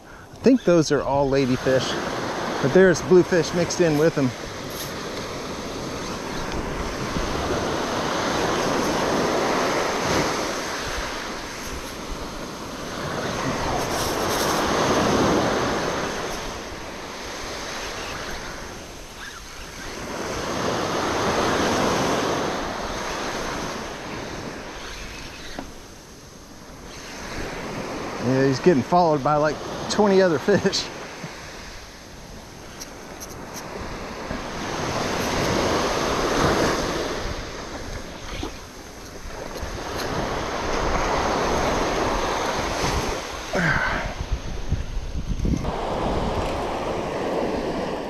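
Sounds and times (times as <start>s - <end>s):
surf breaking on a sandy beach: 0.0s - 48.0s.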